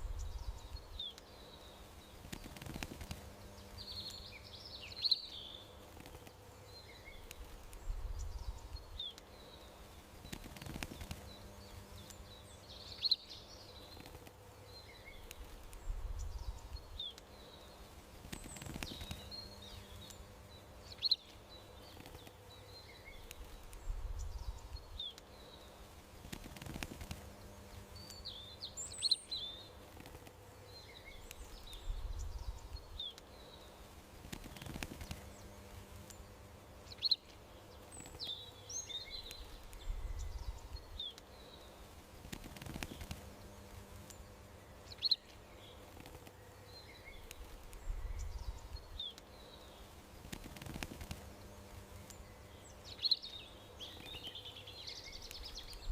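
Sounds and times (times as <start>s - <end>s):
faint steady hum: 0.0s - 55.9s
songbirds chirping: 0.0s - 55.9s.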